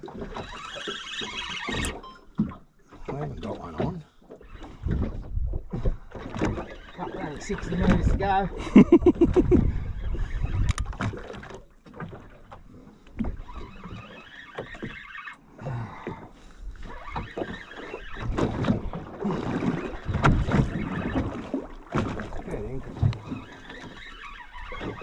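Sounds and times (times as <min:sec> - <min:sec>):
water and hull noise: 0:00.0 - 0:25.0.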